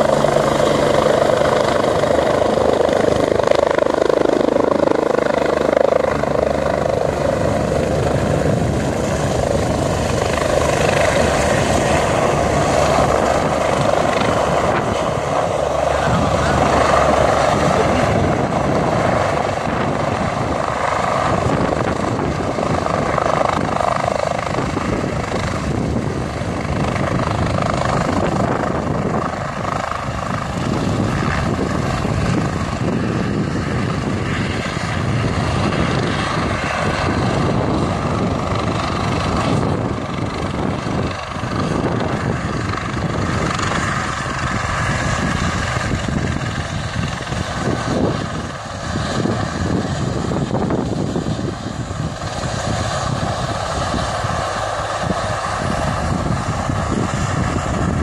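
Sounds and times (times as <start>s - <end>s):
helicopter rotor and turbine: 0.0s - 58.0s.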